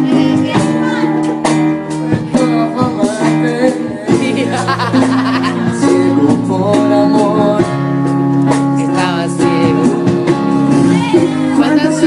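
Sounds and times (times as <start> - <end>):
drums: 0.0 - 12.0
keyboard chords: 0.0 - 12.0
man singing into a microphone: 2.0 - 12.0.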